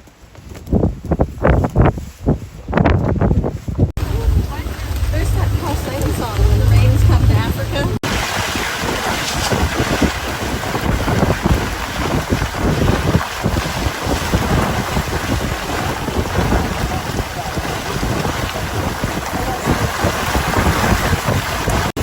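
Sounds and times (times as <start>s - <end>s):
wind buffeting microphone: 0.2s - 22.0s.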